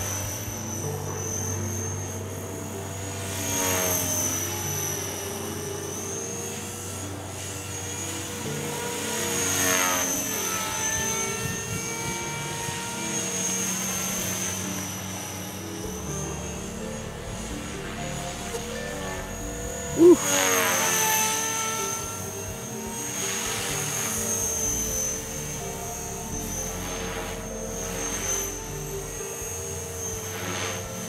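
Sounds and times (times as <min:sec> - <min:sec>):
background music: 0:00.0 - 0:31.0
rc helicopter rotor whine: 0:00.0 - 0:31.0.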